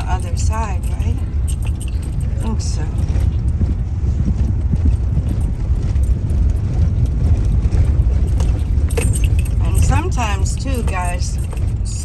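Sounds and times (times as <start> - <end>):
car road rumble: 0.0 - 12.0
light knocks and rattles: 0.0 - 12.0.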